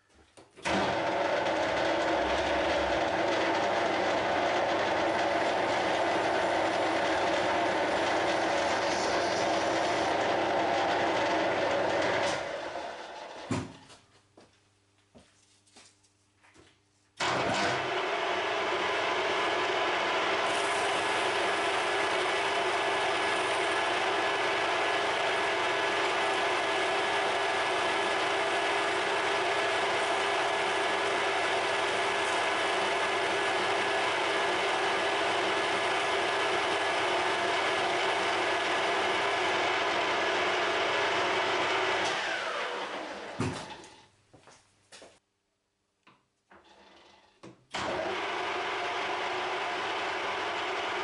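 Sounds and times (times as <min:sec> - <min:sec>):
lathe running with whine: 0:00.6 - 0:13.5, 0:17.2 - 0:43.9, 0:47.8 - 0:51.0.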